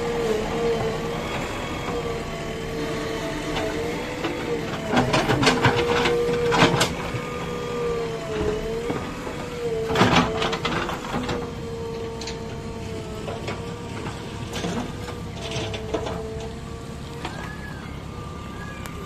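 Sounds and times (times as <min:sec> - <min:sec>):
diesel engine whining under load: 0:00.0 - 0:19.0.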